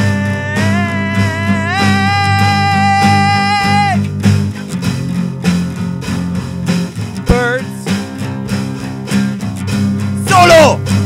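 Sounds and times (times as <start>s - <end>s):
guitar-led music with bass: 0.0s - 11.0s.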